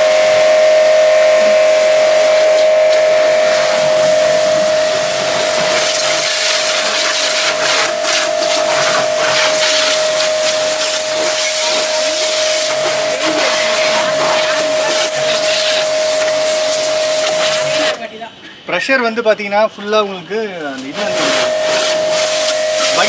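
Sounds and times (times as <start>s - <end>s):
water jet spraying: 0.0s - 18.2s, 20.6s - 23.0s
pressure washer motor whine: 0.0s - 18.3s, 20.7s - 23.0s.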